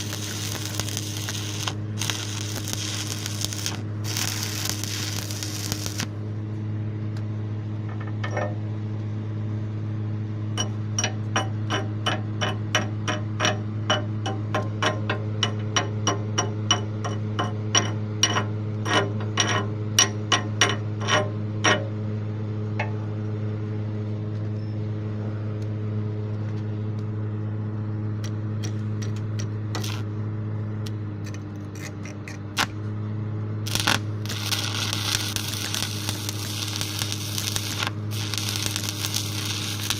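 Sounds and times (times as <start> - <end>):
arc welder humming: 0.0 - 24.2, 28.1 - 39.9.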